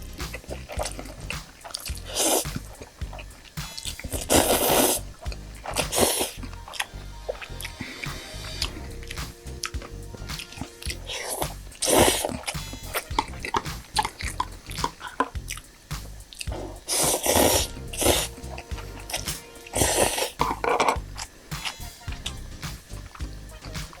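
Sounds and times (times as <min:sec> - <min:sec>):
noisy bursts: 0:00.0 - 0:24.0
chewing and biting: 0:00.2 - 0:22.3.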